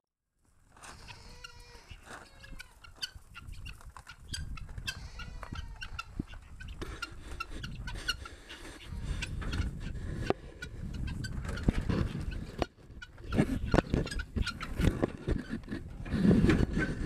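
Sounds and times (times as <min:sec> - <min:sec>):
guinea fowl calling: 0:00.9 - 0:15.8.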